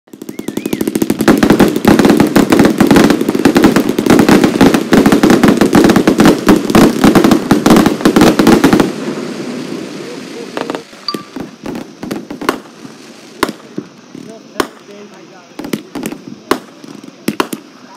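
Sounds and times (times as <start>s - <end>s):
fireworks bangs and crackles: 0.1s - 17.9s.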